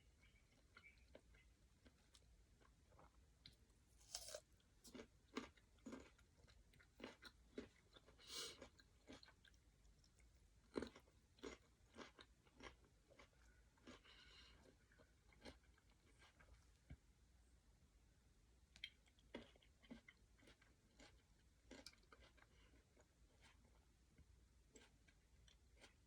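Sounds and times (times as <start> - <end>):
person chewing and crunching food: 0.2 - 17.0, 18.7 - 26.0.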